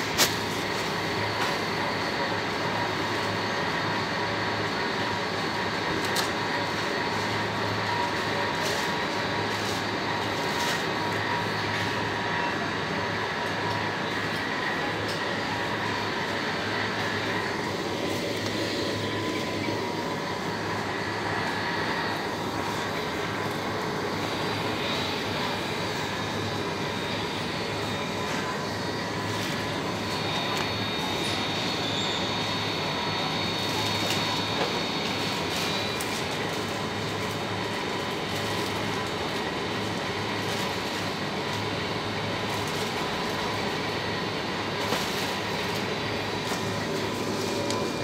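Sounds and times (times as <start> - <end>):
faint steady whine: 0.0 - 48.0
refrigeration hum: 0.0 - 48.0.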